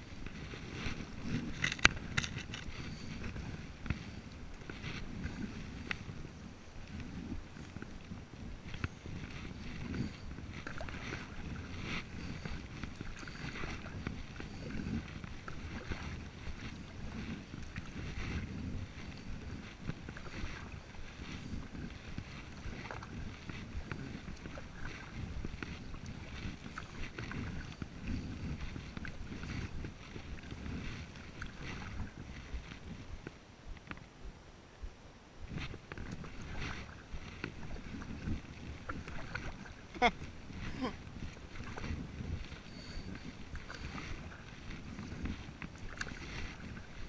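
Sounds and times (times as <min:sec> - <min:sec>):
paddle splashing water: 0:00.0 - 0:34.1, 0:35.4 - 0:47.0
wind on microphone: 0:00.0 - 0:47.0.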